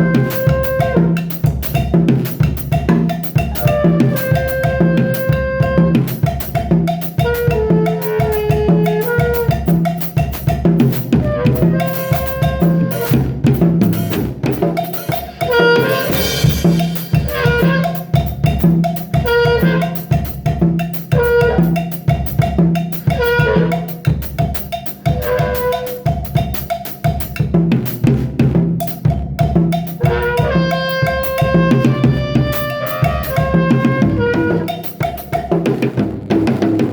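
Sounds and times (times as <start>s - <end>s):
drum kit beat: 0.0s - 36.9s.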